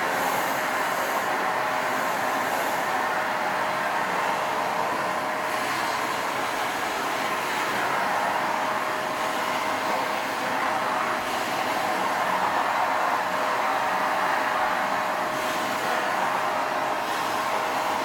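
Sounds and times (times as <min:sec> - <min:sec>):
vacuum cleaner motor whining: 0:00.0 - 0:18.0.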